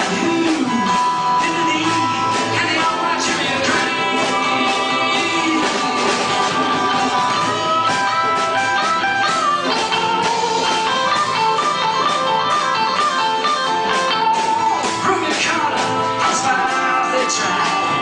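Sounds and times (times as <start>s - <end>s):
lead guitar line bending in pitch: 0.0s - 18.0s
live rock band playing: 0.0s - 18.0s
strummed guitars: 0.0s - 18.0s.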